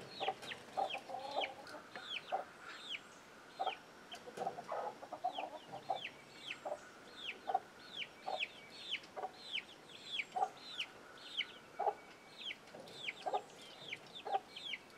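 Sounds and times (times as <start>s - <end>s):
hen clucking: 0.0s - 3.0s, 3.6s - 14.8s
chicks peeping: 0.0s - 14.9s.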